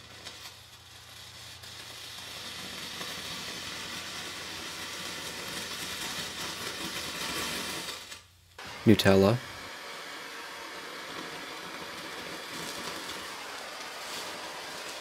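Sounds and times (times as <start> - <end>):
hissing flame: 0.0 - 15.0.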